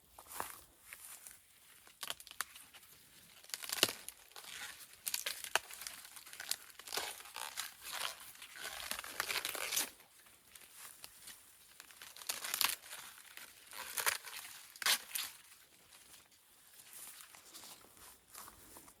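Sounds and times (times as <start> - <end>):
crackly rustling and crinkling: 0.0 - 19.0.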